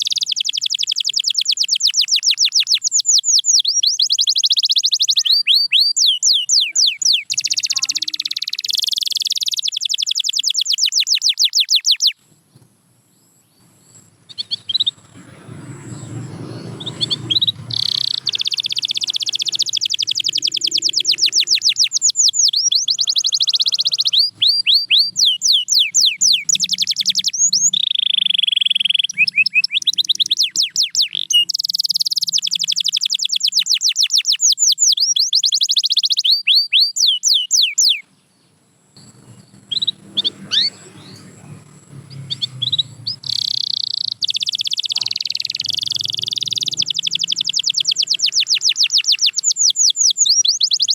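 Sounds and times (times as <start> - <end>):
canary singing trills: 0.0 - 12.2, 13.1 - 50.9.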